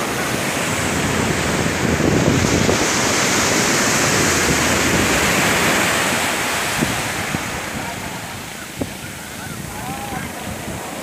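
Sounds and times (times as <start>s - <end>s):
surf washing up a beach: 0.0s - 11.0s.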